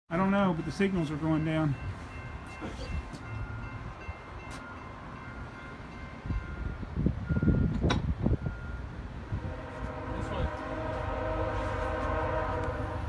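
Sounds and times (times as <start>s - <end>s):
low train rumble: 0.1s - 13.0s
railroad crossing bell ringing: 0.1s - 13.0s.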